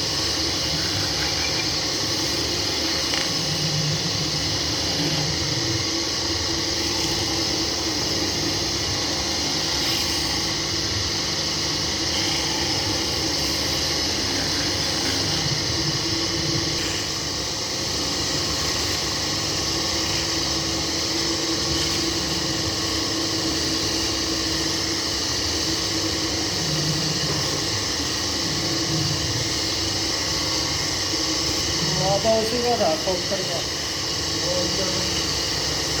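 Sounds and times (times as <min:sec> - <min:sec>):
wood-turning lathe humming: 0:00.0 - 0:36.0.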